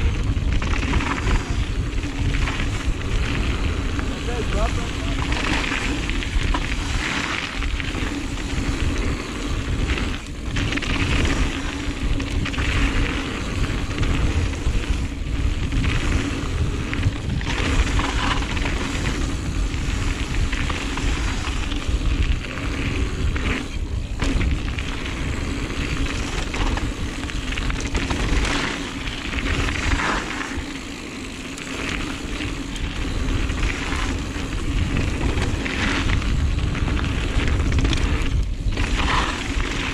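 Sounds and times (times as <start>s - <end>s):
bike tyres on dirt: 0.0s - 39.9s
wind rumble on microphone: 0.0s - 39.9s.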